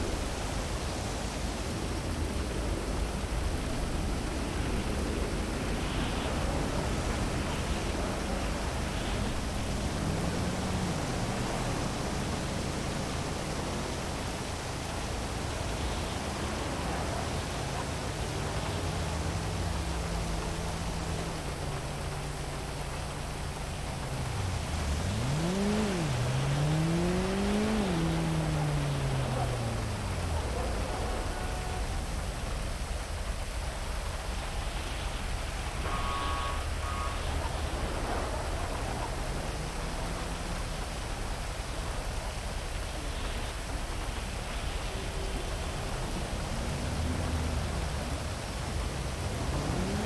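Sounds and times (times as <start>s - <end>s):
heavy rain hiss: 0.0s - 50.0s
vehicle engine hum: 0.0s - 50.0s.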